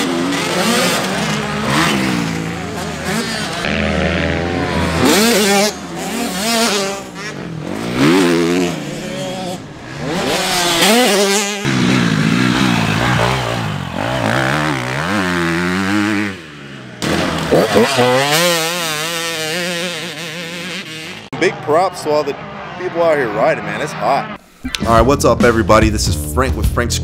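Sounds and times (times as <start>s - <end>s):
dirt bikes revving: 0.0s - 24.4s.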